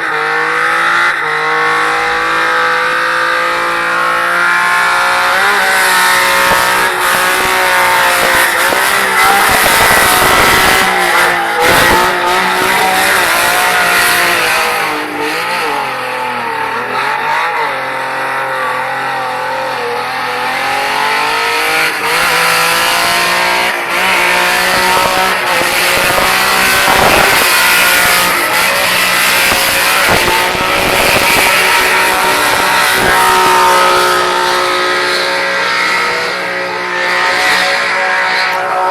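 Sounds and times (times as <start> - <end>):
car engine revving high: 0.0 - 38.9.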